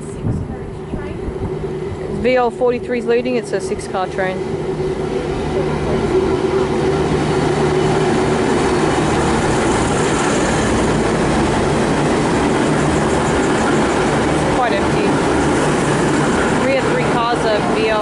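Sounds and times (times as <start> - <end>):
diesel engines humming: 0.0 - 18.0
train noise: 0.0 - 18.0.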